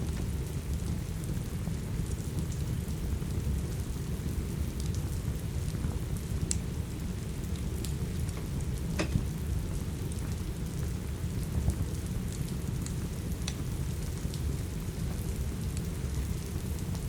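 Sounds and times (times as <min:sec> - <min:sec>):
steady rain: 0:00.0 - 0:17.0
wood fire crackling and popping: 0:00.0 - 0:17.0.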